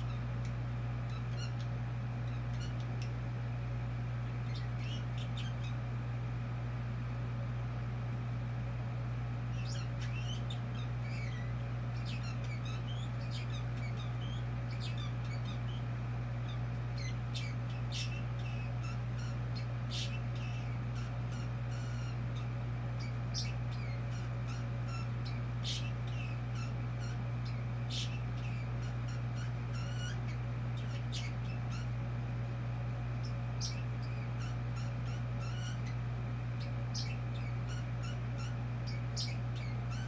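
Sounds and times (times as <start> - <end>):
parrot chattering: 0.0 - 3.2, 4.3 - 5.8, 9.5 - 32.0, 33.2 - 36.0, 36.6 - 40.0.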